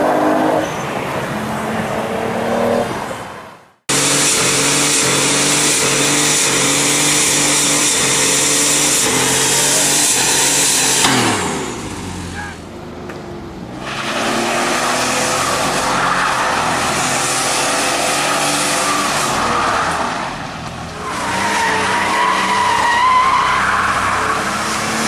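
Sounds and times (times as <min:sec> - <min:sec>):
tyres screeching on asphalt: 0:00.0 - 0:25.0
car engine revving: 0:03.9 - 0:25.0.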